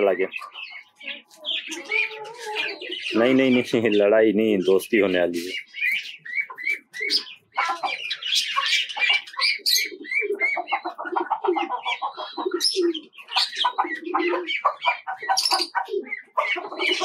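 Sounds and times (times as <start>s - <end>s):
budgerigars and finches chirping: 0.0s - 17.0s
chickens clucking: 0.0s - 17.0s
pigeons cooing: 0.0s - 17.0s.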